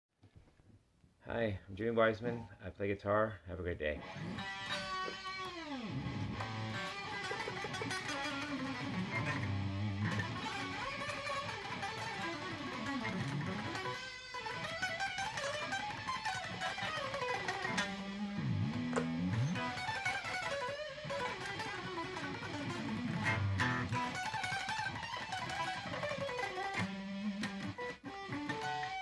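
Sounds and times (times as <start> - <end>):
electric guitar lead lines: 4.0 - 29.0.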